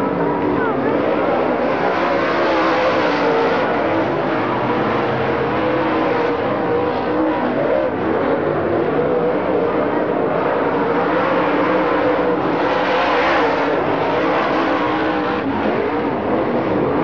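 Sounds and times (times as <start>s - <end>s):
vehicle engine noise: 0.0s - 17.0s.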